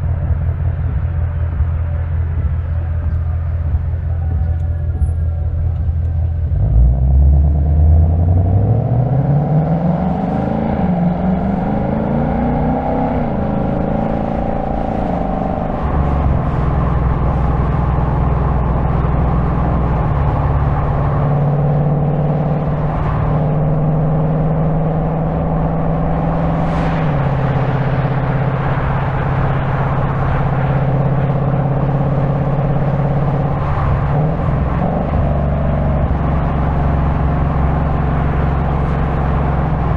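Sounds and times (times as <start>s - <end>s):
car engine accelerating and cruising: 0.0s - 39.9s.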